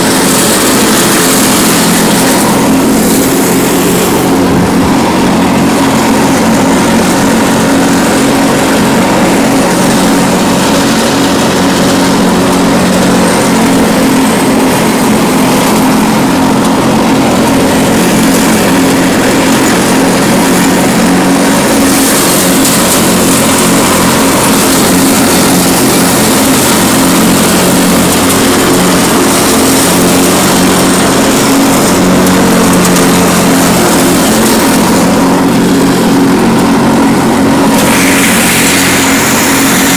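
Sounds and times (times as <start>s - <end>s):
lawn tractor engine and mower: 0.0s - 39.9s.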